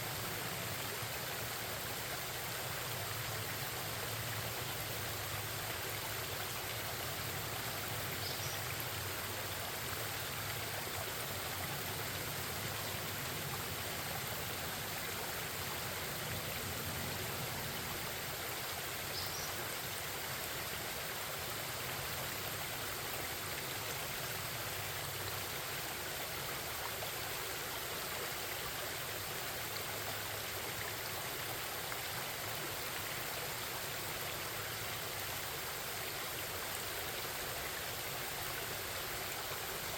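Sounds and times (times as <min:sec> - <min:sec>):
forest stream babbling: 0:00.0 - 0:39.9.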